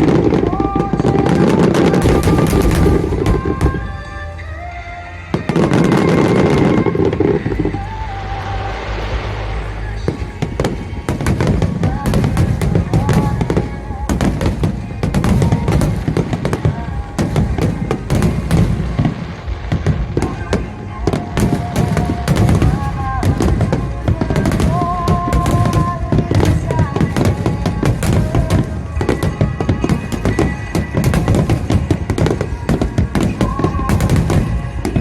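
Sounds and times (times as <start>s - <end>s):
fireworks bursting and crackling: 0.0s - 35.0s
music over loudspeakers: 0.0s - 35.0s.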